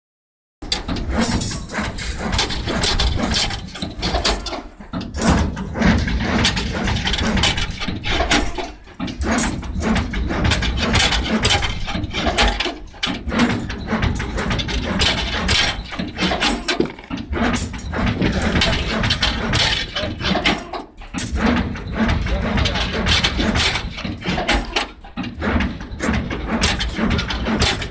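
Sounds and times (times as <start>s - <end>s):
bending machine clatter and whir: 0.6s - 27.9s.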